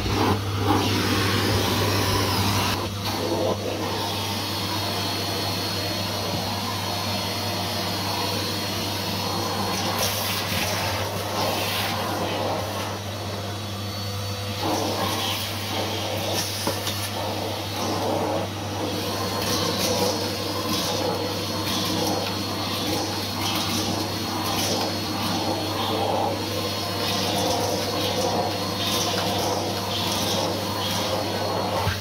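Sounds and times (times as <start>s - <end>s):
vacuum cleaner motor hum: 0.0s - 32.0s
vacuum suction rushing on carpet: 0.0s - 32.0s.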